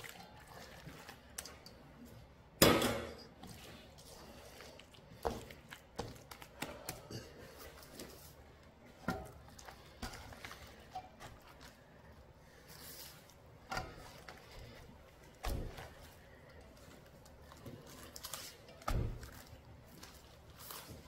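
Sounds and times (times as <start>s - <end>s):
wet squishing of hand mixing paste: 0.0s - 21.0s.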